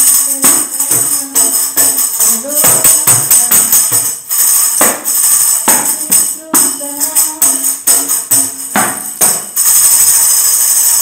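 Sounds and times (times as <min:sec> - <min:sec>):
tambourine jingling: 0:00.0 - 0:11.0.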